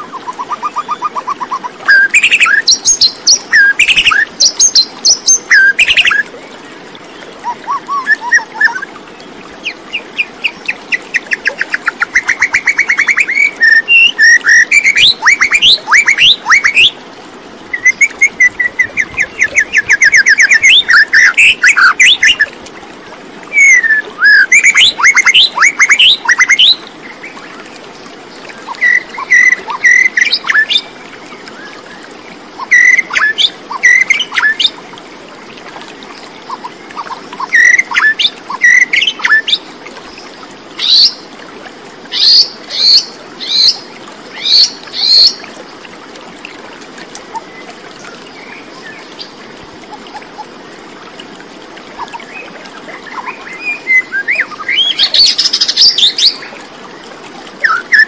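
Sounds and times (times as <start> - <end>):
songbird chirps and trills: 0.0 - 17.0, 17.6 - 34.8, 35.5 - 41.4, 42.0 - 45.9, 46.5 - 58.0.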